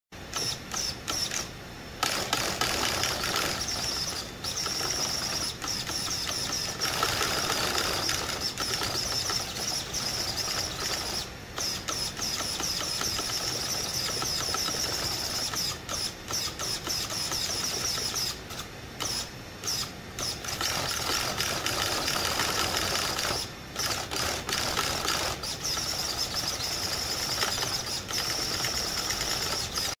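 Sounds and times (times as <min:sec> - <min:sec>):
steering servo whining: 0:00.3 - 0:30.0.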